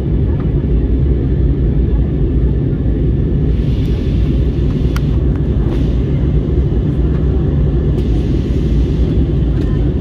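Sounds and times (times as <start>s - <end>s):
aircraft cabin engine rumble: 0.0s - 10.0s.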